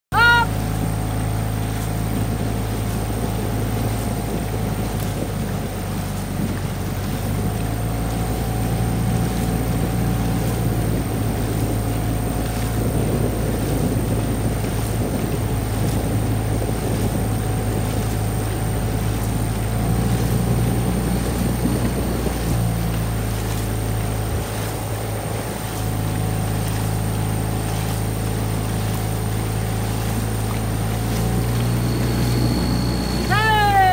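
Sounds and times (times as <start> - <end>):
motorboat engine droning: 0.1 - 33.9
water and wind noise: 0.1 - 33.9.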